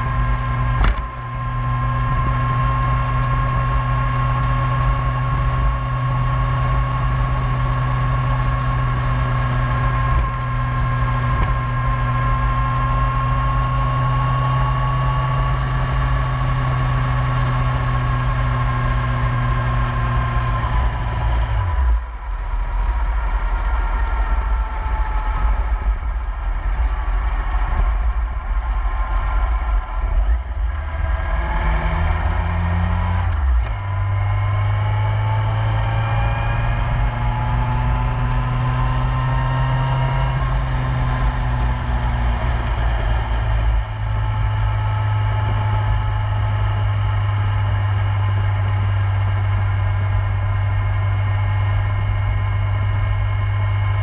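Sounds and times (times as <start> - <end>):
wind rumble on microphone: 0.0 - 16.6, 17.6 - 54.0
motorcycle engine cruising: 0.0 - 54.0.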